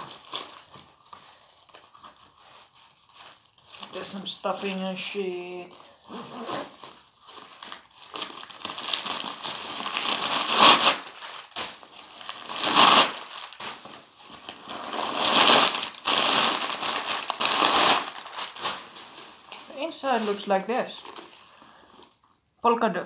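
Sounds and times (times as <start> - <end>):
paper crinkling and rustling: 0.0 - 22.3.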